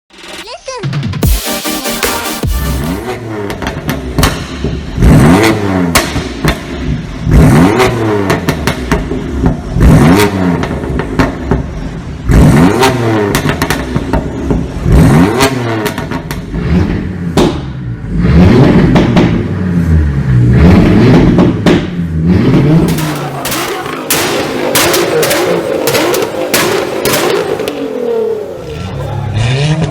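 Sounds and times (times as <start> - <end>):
car engine revving: 2.4 - 29.9
exhaust popping and crackling: 2.5 - 19.6, 20.8 - 29.1.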